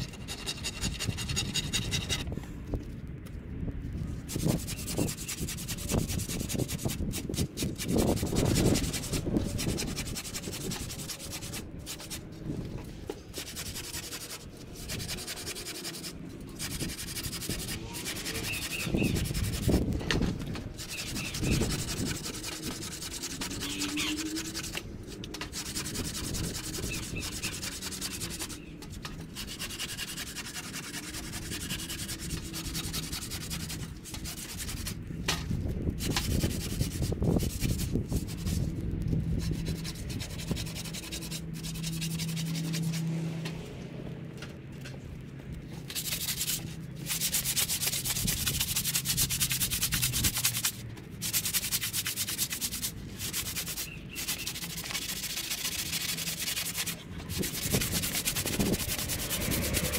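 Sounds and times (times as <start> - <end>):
blade scraping wood: 0.0 - 2.4, 4.2 - 43.6, 45.8 - 59.9
sanding sponge rubbing wood: 4.2 - 12.4, 13.3 - 20.0, 20.7 - 35.0, 36.0 - 43.0, 45.9 - 59.9.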